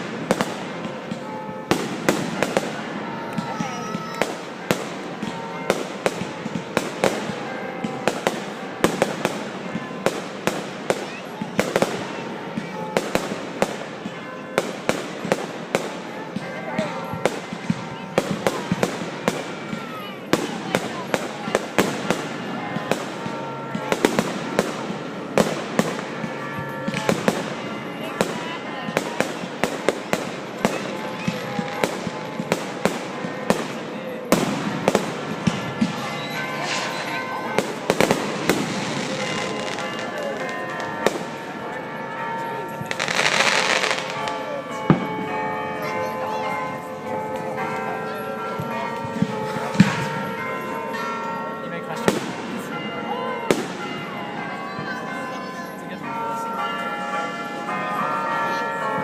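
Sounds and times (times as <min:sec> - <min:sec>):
fireworks banging: 0:00.0 - 0:55.0
background noise: 0:00.0 - 0:59.0.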